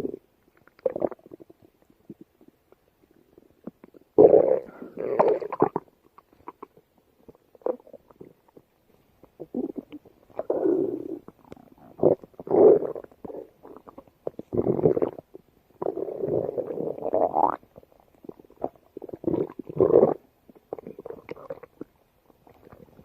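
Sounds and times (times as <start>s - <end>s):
stomach growling and gurgling: 0.0s - 23.0s.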